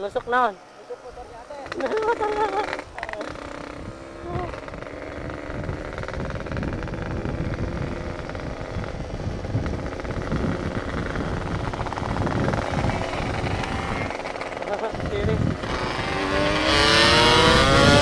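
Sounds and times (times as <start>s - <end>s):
two-stroke motorcycle engine: 1.2s - 18.0s.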